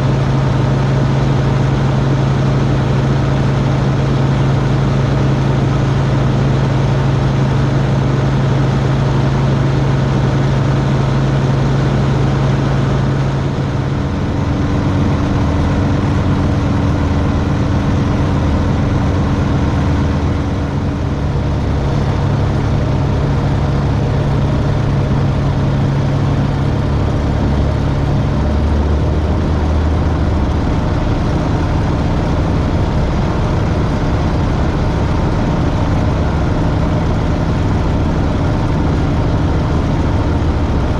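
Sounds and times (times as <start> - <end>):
aircraft engine and propeller drone: 0.0 - 40.9.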